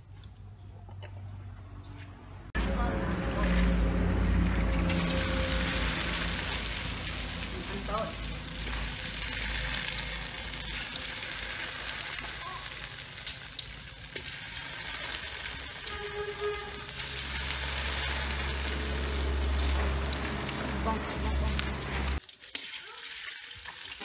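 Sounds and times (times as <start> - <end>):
food sizzling in hot oil: 4.3 - 24.0.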